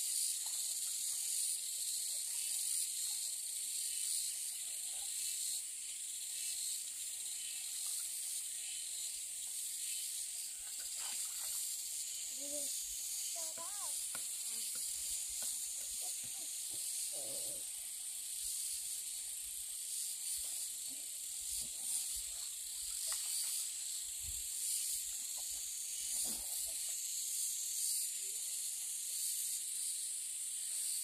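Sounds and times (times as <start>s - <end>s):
insect chorus hissing: 0.0s - 31.0s.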